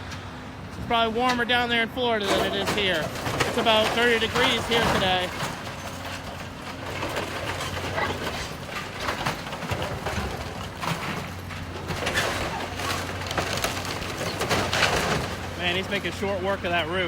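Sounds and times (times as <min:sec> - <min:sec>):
demolition machine engine: 0:00.0 - 0:17.0
debris crunching and cracking: 0:02.2 - 0:17.0.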